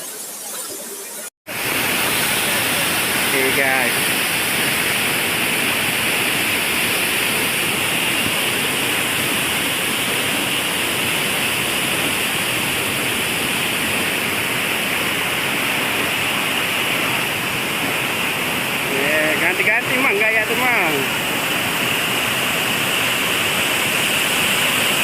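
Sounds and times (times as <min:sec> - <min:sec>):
waterfall rushing: 0:01.5 - 0:25.0.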